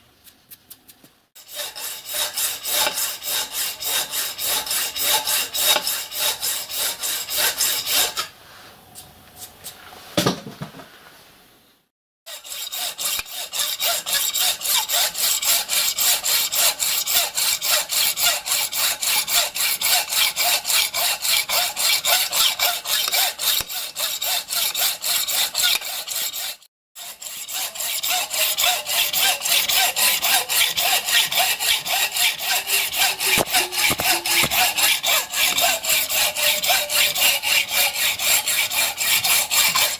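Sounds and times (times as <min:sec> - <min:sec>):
hacksaw cutting metal: 0:01.4 - 0:08.3, 0:12.3 - 0:39.9.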